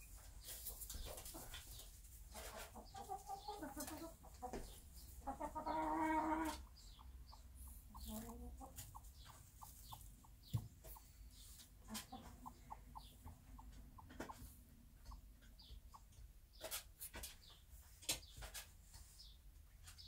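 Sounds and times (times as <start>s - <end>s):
hen clucking: 0.2s - 17.6s.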